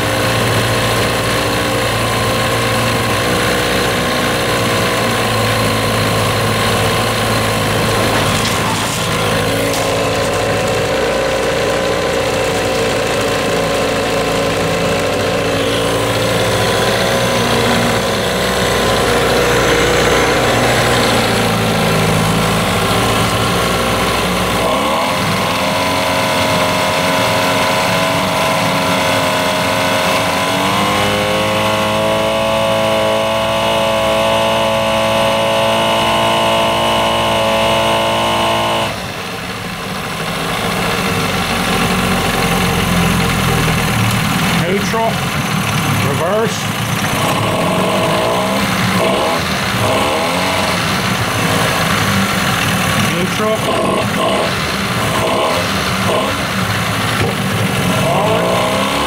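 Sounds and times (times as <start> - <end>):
propeller churning water: 0.0 - 37.2, 38.2 - 59.0
outboard motor running: 0.0 - 59.0.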